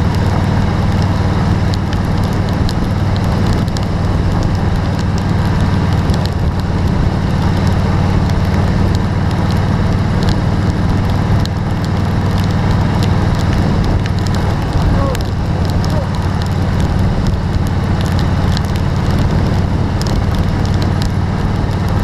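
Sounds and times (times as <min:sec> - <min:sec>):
hard rain on a vehicle: 0:00.0 - 0:22.0
steady low rumble: 0:00.0 - 0:22.0.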